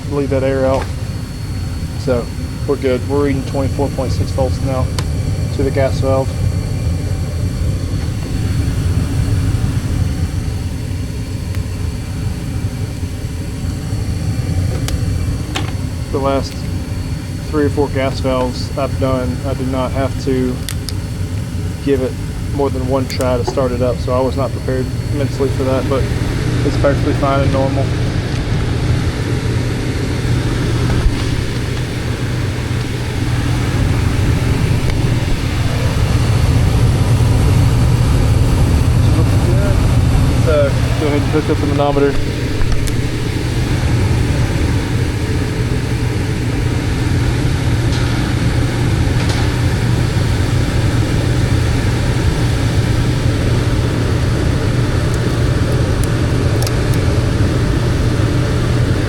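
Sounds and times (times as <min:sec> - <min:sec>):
faint hum: 0:00.0 - 0:59.0
gas furnace low rumble: 0:00.0 - 0:59.0.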